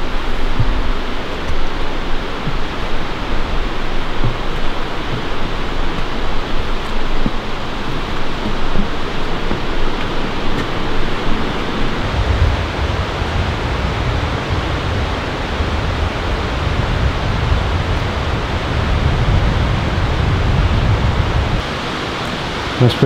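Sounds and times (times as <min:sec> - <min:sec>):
river water rushing: 0:00.0 - 0:23.0
wind rumble on microphone: 0:00.0 - 0:23.0.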